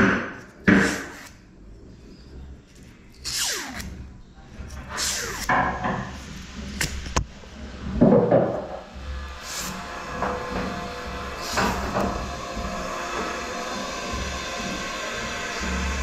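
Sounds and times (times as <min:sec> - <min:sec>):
scraping and rubbing on motor: 0:00.5 - 0:07.8, 0:08.9 - 0:16.0.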